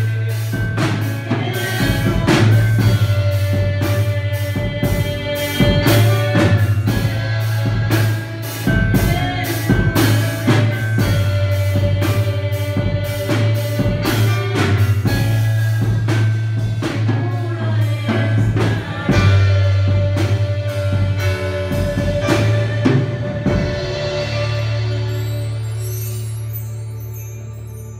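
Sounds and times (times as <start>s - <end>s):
people singing: 0.0s - 15.8s, 16.8s - 25.8s
steady drum beat: 0.0s - 26.0s.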